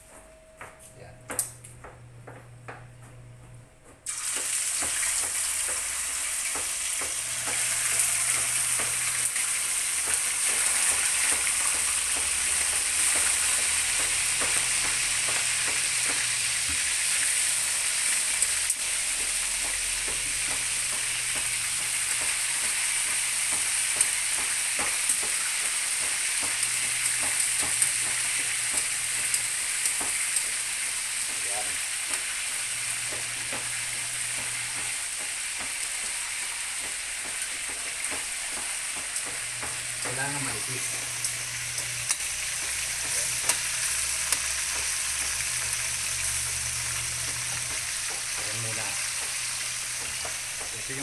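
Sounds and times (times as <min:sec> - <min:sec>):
meat sizzling in hot oil: 0:04.1 - 0:51.0.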